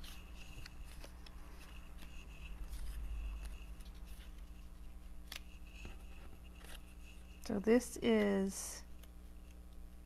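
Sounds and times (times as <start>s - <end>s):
paper rustling: 0.0s - 8.6s.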